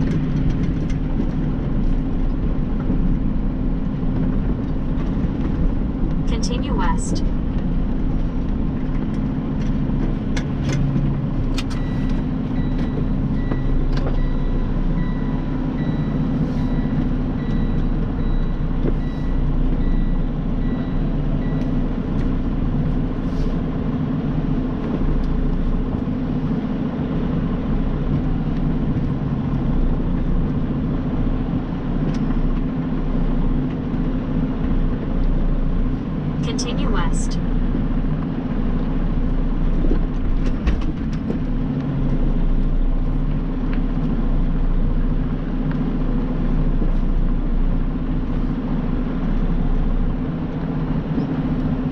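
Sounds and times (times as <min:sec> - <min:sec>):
truck engine and road drone: 0:00.0 - 0:51.9.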